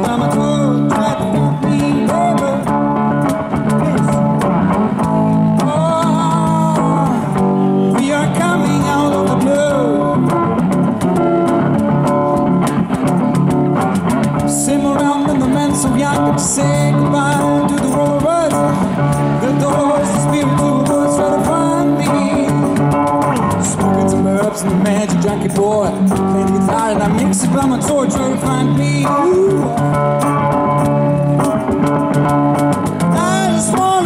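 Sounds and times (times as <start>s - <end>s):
cajon beat: 0.0s - 34.0s
electric bass: 0.0s - 34.0s
electric guitar: 0.0s - 34.0s.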